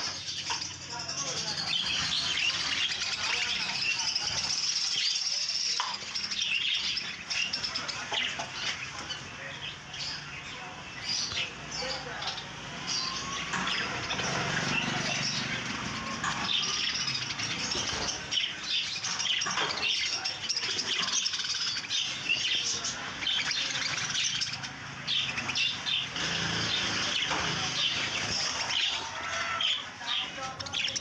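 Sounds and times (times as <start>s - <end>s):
budgerigars chattering: 0.0s - 31.0s.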